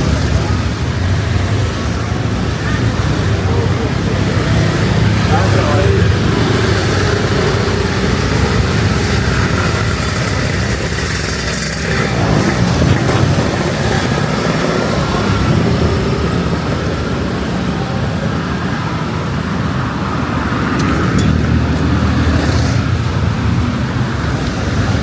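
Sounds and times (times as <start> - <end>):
street traffic: 0.0 - 25.0
wind buffeting microphone: 0.0 - 25.0.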